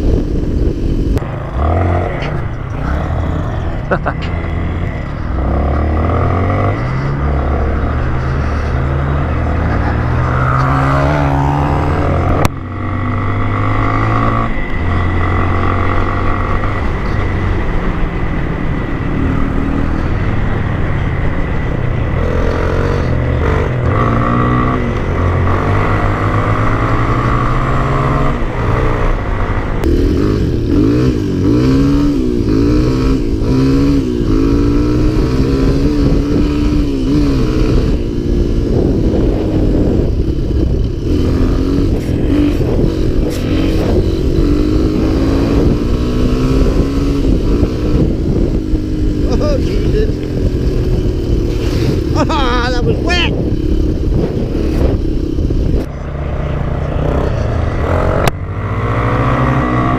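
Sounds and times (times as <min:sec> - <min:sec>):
dirt bike engine running: 0:00.0 - 0:59.9
dirt bike engine revving: 0:00.5 - 0:59.9.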